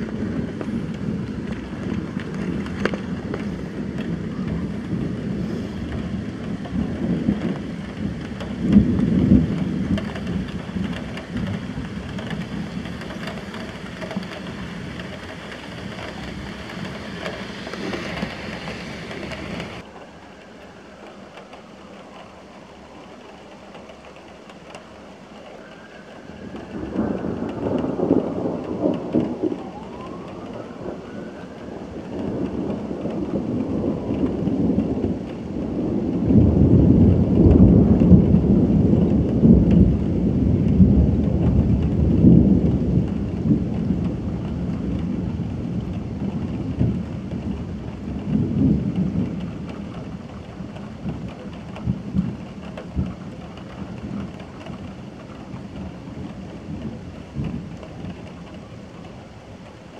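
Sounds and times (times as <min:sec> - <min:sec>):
rolling thunder: 0:00.0 - 0:19.9, 0:25.5 - 0:59.9
steady rain: 0:00.0 - 0:59.9.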